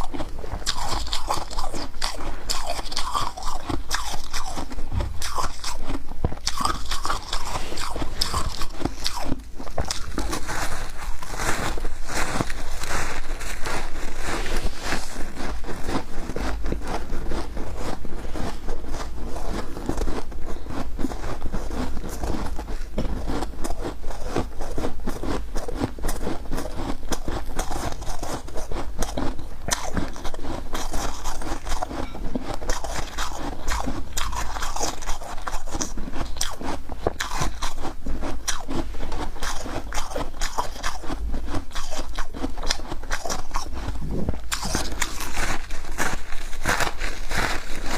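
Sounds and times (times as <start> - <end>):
frost being chewed crunching: 0.0 - 47.9.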